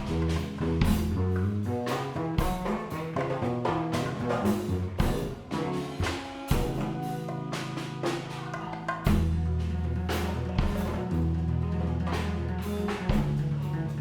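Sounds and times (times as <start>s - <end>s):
bass line: 0.0s - 8.4s, 9.0s - 14.0s
drum kit: 0.0s - 14.0s
guitar: 0.0s - 14.0s.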